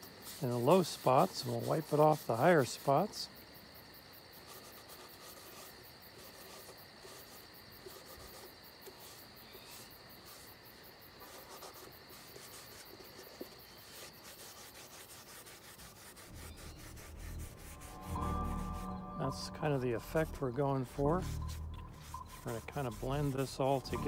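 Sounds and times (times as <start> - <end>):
paper towel rubbing a surface: 0.0 - 3.3, 4.4 - 24.0
high insect trill: 0.0 - 24.0.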